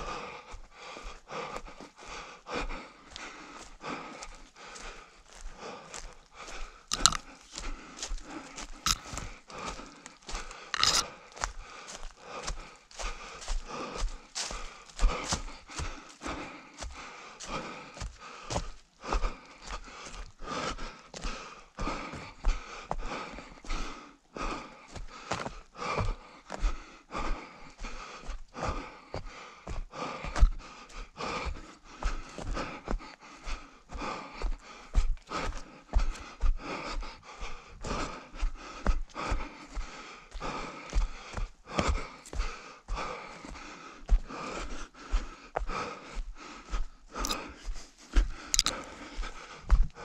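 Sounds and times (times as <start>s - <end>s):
runner panting hard: 0.0s - 50.0s.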